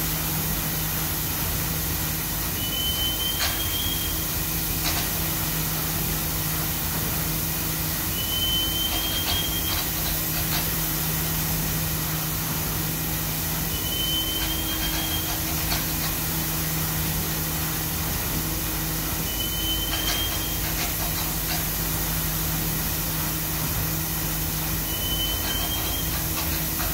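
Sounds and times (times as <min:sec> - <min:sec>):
low machine hum: 0:00.0 - 0:26.9.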